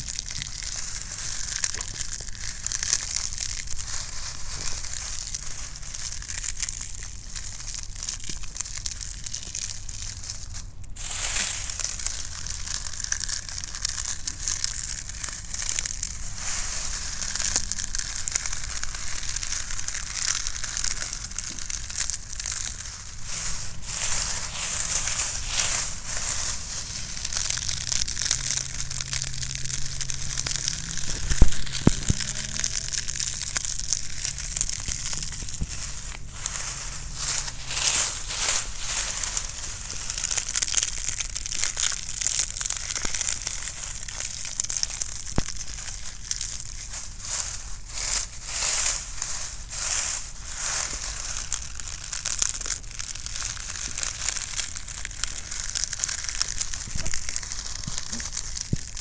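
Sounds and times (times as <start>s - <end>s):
dry leaves crunching: 0.0s - 59.0s.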